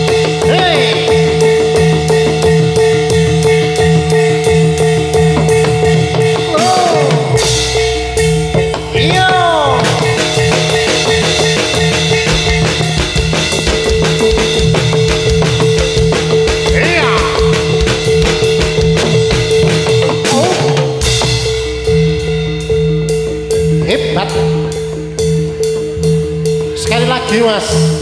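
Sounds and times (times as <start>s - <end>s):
held tone: 0.0s - 27.4s
drums fast steady beat: 0.0s - 28.0s.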